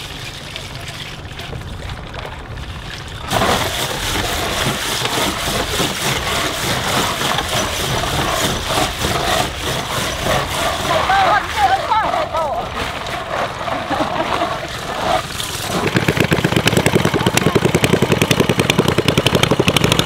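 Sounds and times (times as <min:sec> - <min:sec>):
low rumble: 0:00.0 - 0:17.6.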